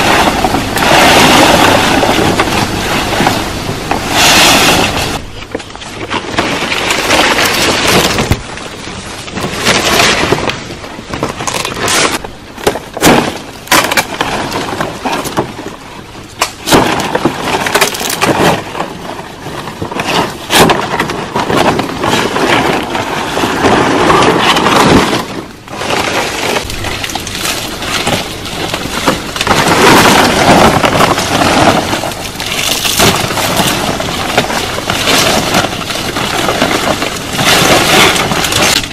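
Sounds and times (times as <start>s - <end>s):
branches cracking and snapping: 0.0s - 38.9s
rustling: 0.0s - 38.9s.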